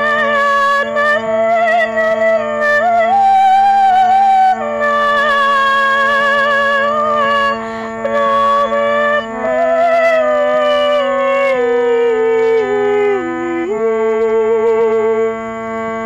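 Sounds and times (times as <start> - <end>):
harmonium chords: 0.0 - 16.0
woman singing with vibrato: 0.0 - 16.0.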